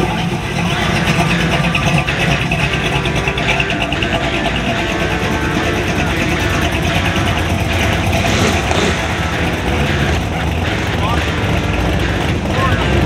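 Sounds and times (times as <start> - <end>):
guitar music: 0.0 - 13.0.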